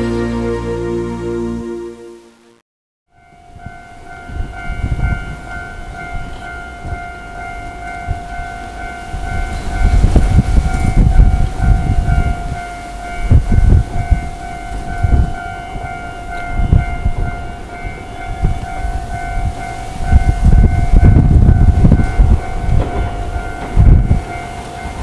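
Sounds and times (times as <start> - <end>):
level crossing warning bell: 3.1 - 25.0
train rumbling over crossing: 3.1 - 25.0.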